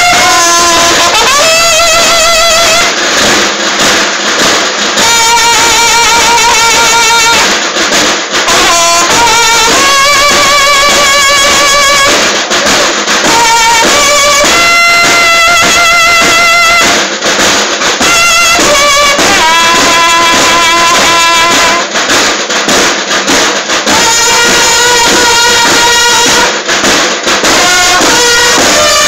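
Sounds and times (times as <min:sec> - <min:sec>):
bugles playing long notes: 0:00.0 - 0:29.0
snare drums: 0:00.0 - 0:29.0.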